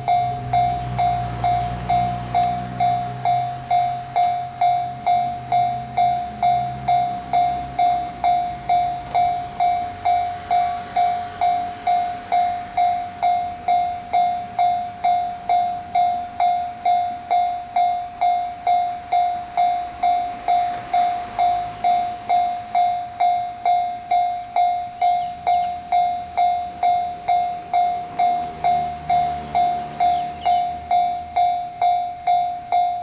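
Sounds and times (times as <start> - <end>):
level-crossing warning bell: 0.0 - 33.0.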